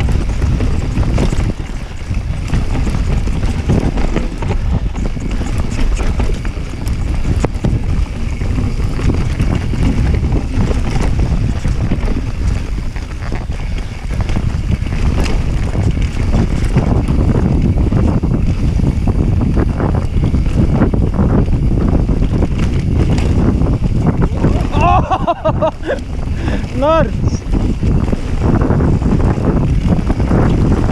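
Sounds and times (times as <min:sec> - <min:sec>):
bike clicking and rattling: 0:00.0 - 0:30.9
tyres rumbling over dirt: 0:00.0 - 0:30.9
wind buffeting microphone: 0:00.0 - 0:30.9.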